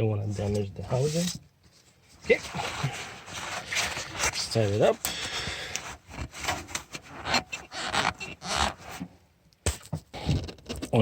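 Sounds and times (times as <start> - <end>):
filter rubbing and scraping: 0.2 - 9.1.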